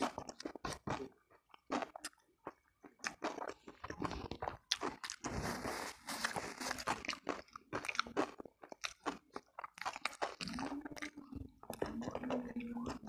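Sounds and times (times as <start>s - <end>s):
chewing crunchy food: 0.0s - 13.0s.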